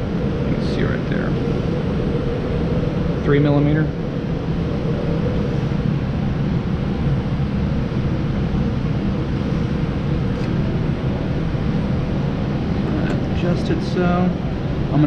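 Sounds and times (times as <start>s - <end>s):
air-handling hiss and hum: 0.0s - 15.0s.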